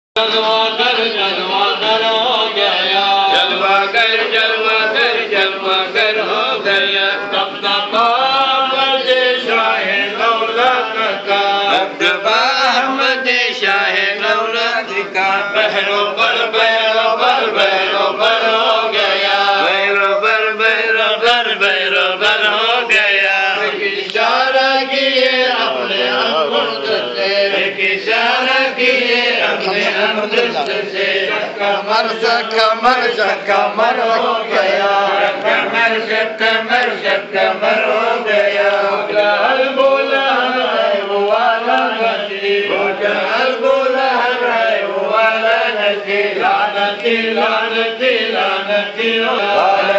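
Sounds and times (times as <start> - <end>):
men chanting together: 0.2 - 49.9.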